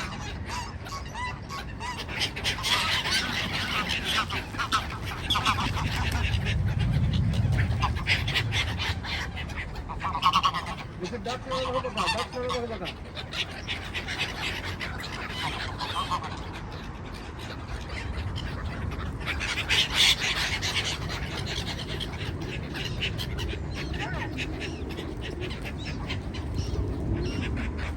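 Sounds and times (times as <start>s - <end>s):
geese honking: 0.0s - 27.9s.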